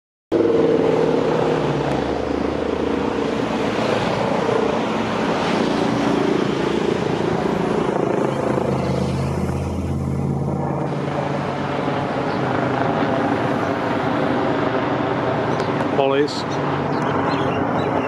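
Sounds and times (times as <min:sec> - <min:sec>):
helicopter drone overhead: 0:00.3 - 0:18.0.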